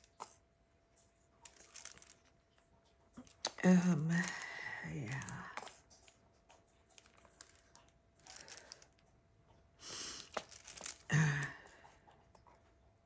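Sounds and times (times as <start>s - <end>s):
crinkling and rustling handling: 0.0s - 12.9s.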